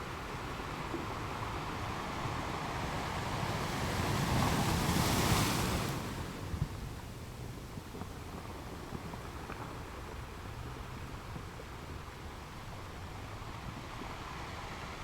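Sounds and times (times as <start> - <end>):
low rumble of sea: 0.0 - 15.0.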